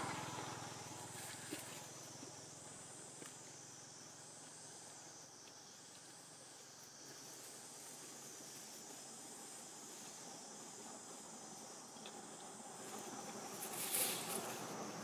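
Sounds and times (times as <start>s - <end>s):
forest ambience: 0.0s - 15.0s
high-pitched insect chorus: 0.0s - 15.0s.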